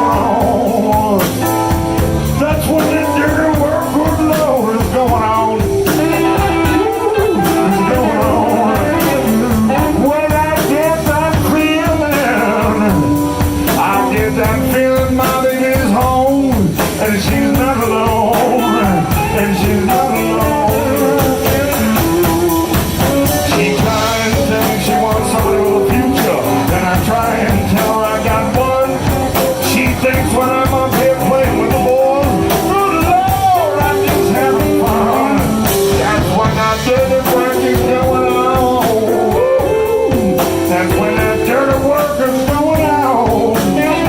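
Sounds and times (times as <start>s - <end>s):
bass and drums beat: 0.0s - 44.0s
electric guitar bending notes: 0.0s - 44.0s.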